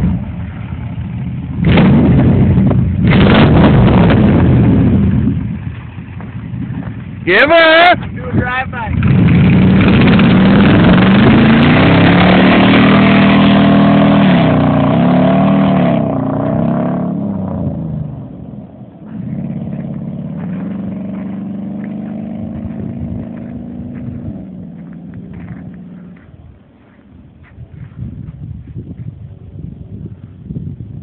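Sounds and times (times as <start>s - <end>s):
pickup truck engine accelerating: 0.0s - 8.1s, 8.9s - 26.5s.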